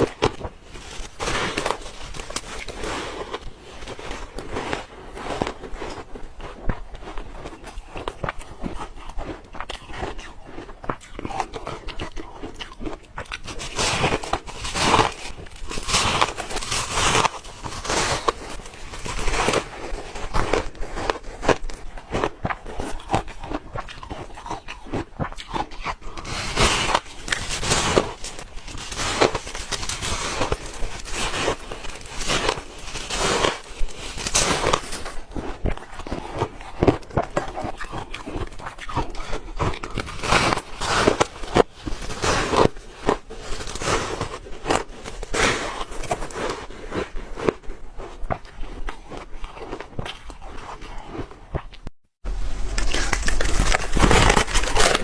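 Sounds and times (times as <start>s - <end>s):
person chewing ice: 0.0s - 55.0s.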